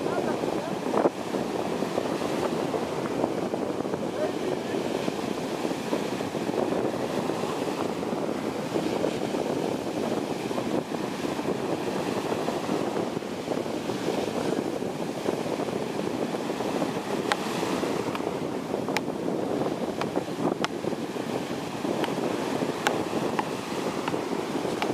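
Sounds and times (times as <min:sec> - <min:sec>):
surf breaking on sandy beach: 0:00.0 - 0:24.9.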